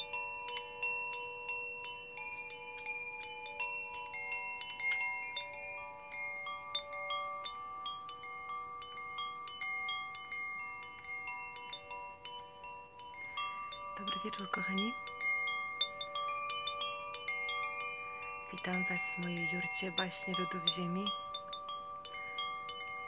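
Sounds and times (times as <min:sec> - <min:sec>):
wind chime ringing: 0:00.0 - 0:23.0.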